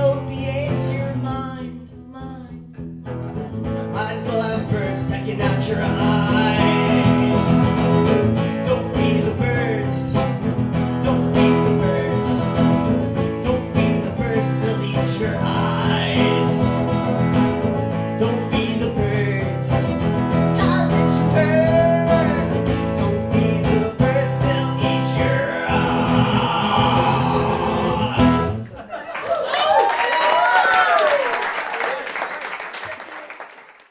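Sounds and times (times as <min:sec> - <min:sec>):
acoustic guitar strumming: 0:00.0 - 0:28.7.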